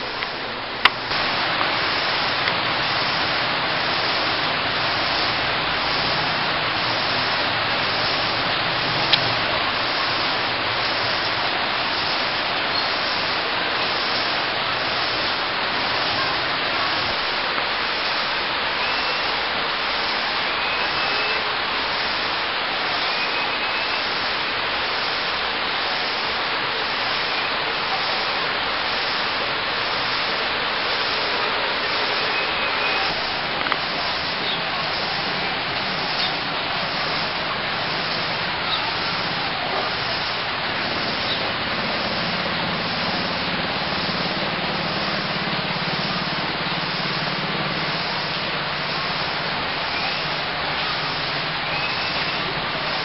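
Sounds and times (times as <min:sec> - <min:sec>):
rain on house and foliage: 0:00.0 - 0:53.0.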